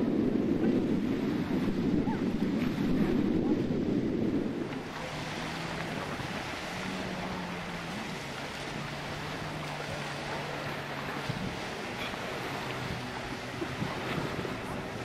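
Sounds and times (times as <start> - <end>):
lake water: 0.0 - 15.0
wind: 0.0 - 15.0.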